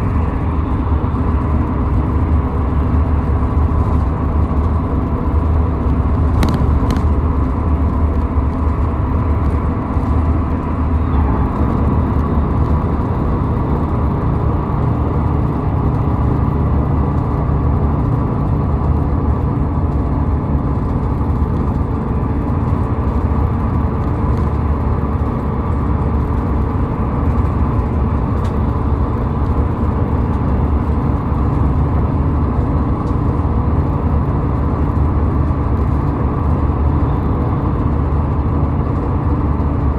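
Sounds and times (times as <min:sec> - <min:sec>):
car driving at highway speed: 0:00.0 - 0:39.9.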